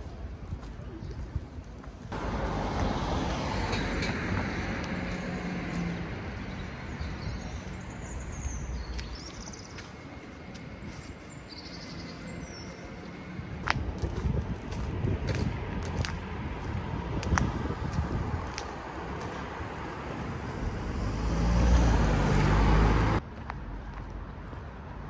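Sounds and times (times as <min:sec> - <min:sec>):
road vehicle passing: 0:02.1 - 0:25.0.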